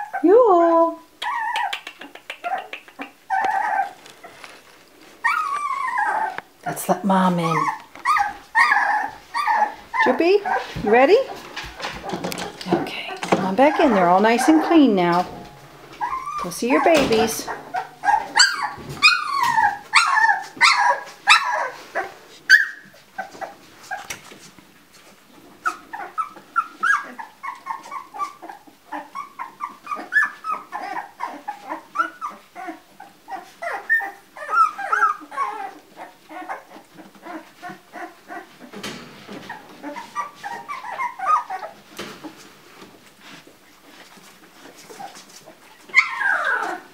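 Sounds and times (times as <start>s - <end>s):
puppies whimpering and squealing: 0.0s - 6.6s, 7.3s - 24.4s, 25.3s - 46.9s.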